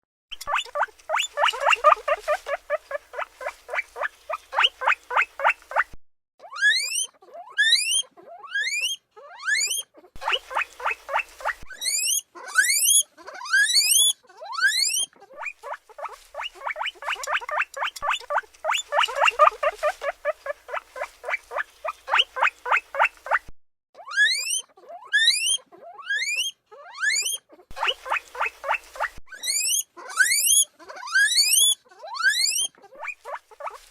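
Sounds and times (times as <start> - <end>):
guinea pig squeaks: 0.3 - 33.9
guinea pig whistled wheeks: 0.3 - 33.9.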